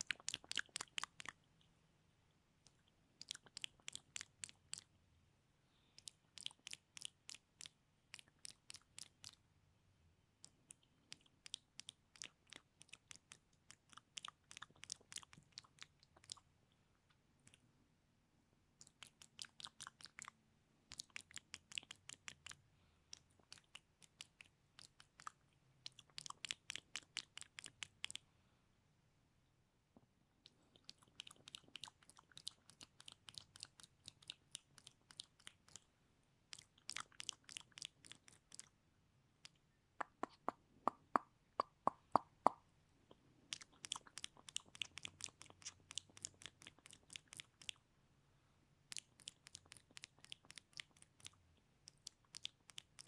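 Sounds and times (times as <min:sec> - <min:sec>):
wet mouth clicks and pops: 0:00.0 - 0:01.7, 0:02.6 - 0:04.9, 0:06.0 - 0:09.4, 0:10.4 - 0:16.5, 0:18.8 - 0:28.2, 0:30.4 - 0:35.9, 0:36.5 - 0:38.7, 0:39.4 - 0:47.8, 0:48.9 - 0:53.0.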